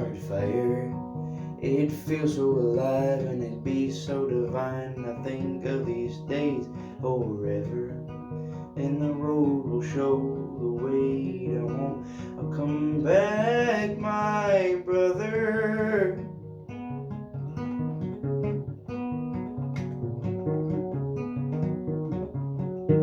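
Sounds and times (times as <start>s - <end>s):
acoustic guitar picking: 0.0s - 23.0s.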